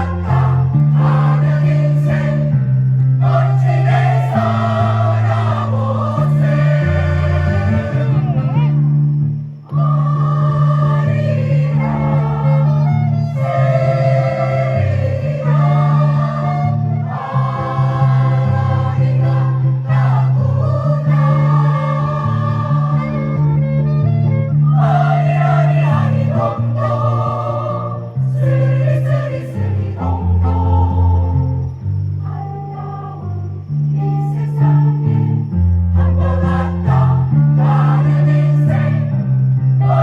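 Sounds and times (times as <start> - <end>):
choir singing: 0.0 - 40.0.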